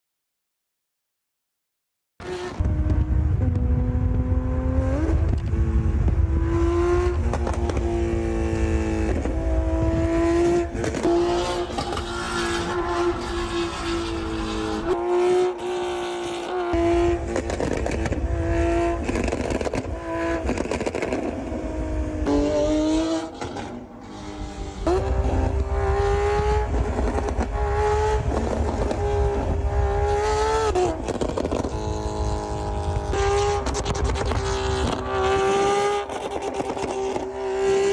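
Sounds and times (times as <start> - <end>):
car engine at high revs: 2.2 - 37.9.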